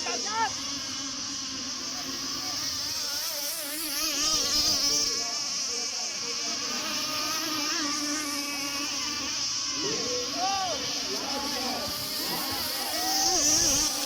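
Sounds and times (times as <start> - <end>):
model boat engines buzzing: 0.0 - 14.0.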